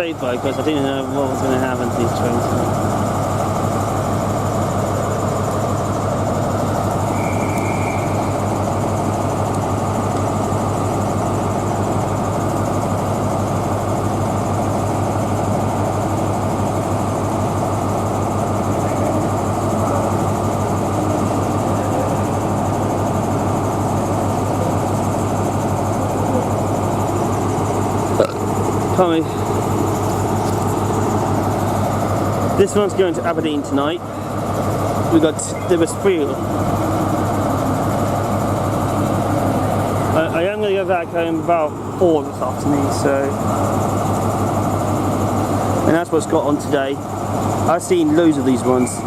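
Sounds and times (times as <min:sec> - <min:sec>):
diesel engine idling: 0:00.0 - 0:49.0.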